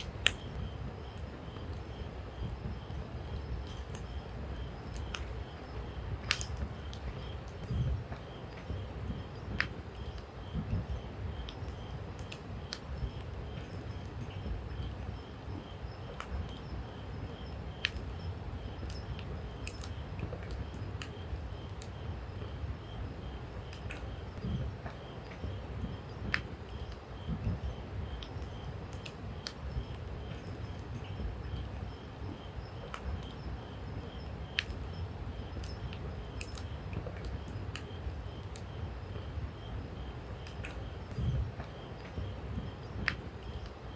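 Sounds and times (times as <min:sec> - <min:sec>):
campfire crackling and popping: 0:00.0 - 0:43.9
faint high chirp: 0:00.0 - 0:43.9
low steady rumble: 0:00.0 - 0:43.9.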